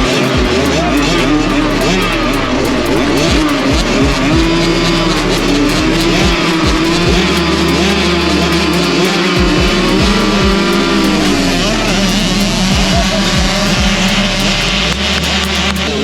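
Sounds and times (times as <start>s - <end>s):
background music: 0.0s - 16.0s
motocross bike engines revving: 0.0s - 16.0s.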